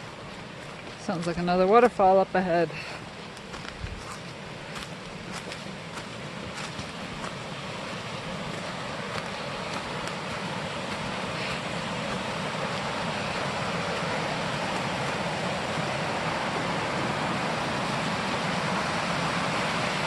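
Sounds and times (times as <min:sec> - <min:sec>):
water rushing over cascade: 0:00.0 - 0:20.0.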